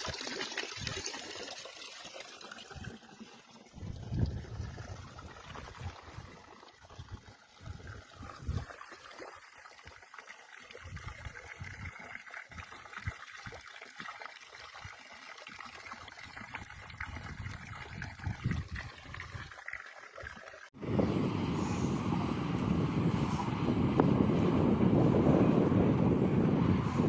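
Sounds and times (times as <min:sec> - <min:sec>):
stream water trickling: 0:00.0 - 0:27.0.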